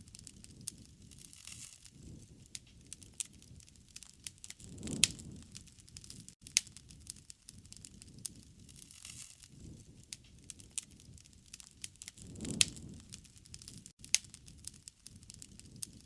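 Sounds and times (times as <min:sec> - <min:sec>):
sharp fire pops: 0:00.0 - 0:16.0
wood fire crackling: 0:00.0 - 0:16.0.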